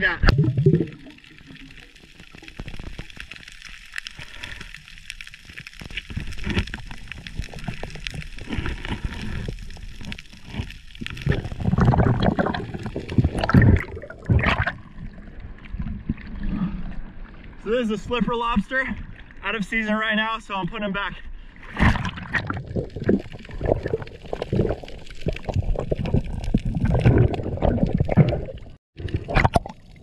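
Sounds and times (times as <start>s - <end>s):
water sloshing and gurgling: 0.0s - 19.6s, 21.2s - 30.0s
underwater clicks and crackles: 0.2s - 17.5s, 21.7s - 30.0s.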